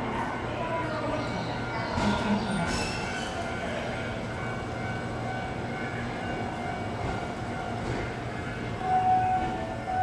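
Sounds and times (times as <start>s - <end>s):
electric train running hum: 0.0s - 10.0s.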